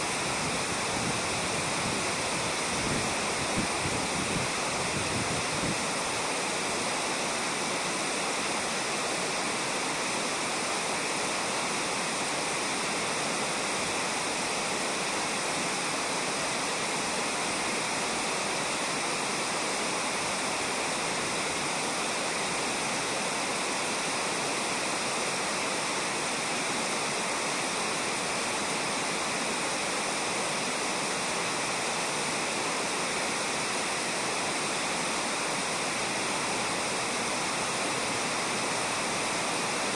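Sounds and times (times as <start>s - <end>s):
river flowing over gravel: 0.0s - 39.9s.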